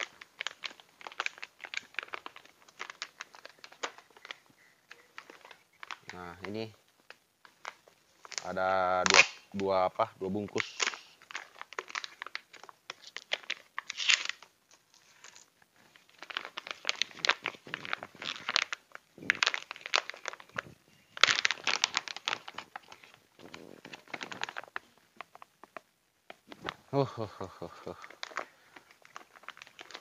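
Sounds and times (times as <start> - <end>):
plastic bags crinkling: 0.0 - 30.0.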